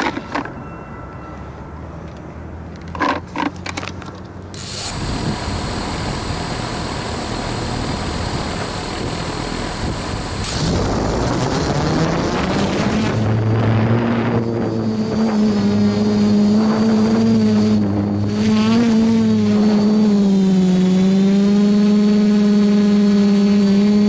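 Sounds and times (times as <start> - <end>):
drone motors whining: 4.6 - 24.0.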